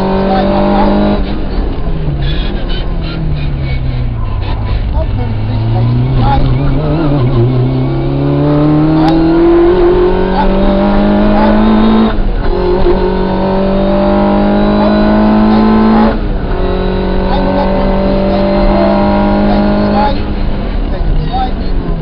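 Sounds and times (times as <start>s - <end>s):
rally car engine accelerating: 0.0s - 22.0s.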